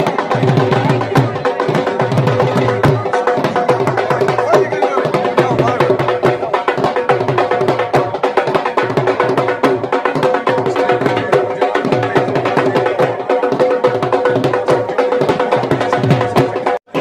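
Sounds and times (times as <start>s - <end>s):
steady drum beat: 0.0s - 17.0s.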